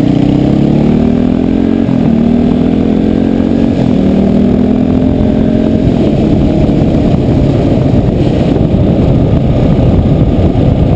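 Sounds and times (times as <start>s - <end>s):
motorcycle engine running: 0.0s - 10.9s
wind and road noise rumble: 0.0s - 10.9s.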